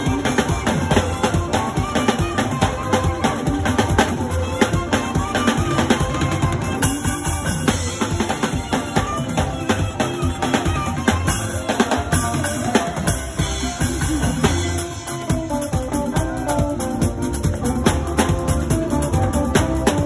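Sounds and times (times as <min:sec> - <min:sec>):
drum kit beat: 0:00.0 - 0:20.0
guitar: 0:00.0 - 0:20.0
keyboard: 0:00.0 - 0:20.0.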